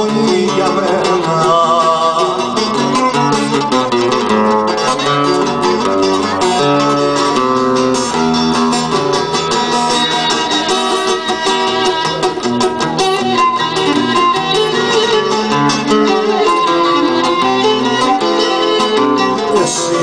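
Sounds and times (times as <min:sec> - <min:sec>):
plucked strings strumming: 0:00.0 - 0:20.0
melody of held notes: 0:02.6 - 0:20.0.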